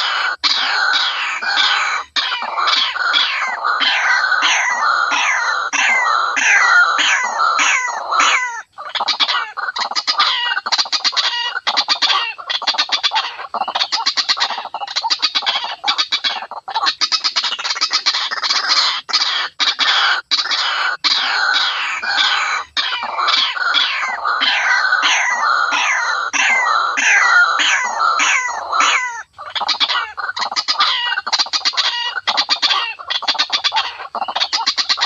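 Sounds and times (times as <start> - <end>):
waterhens calling: 0.0 - 35.0.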